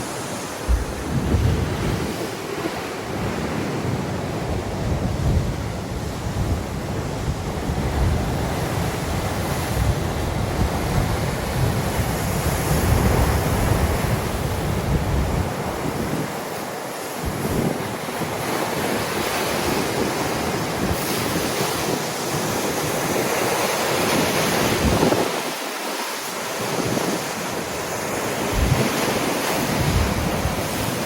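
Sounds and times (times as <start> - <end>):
wind buffeting microphone: 0.0 - 16.6, 17.2 - 31.0
waves washing on shore: 0.0 - 31.0.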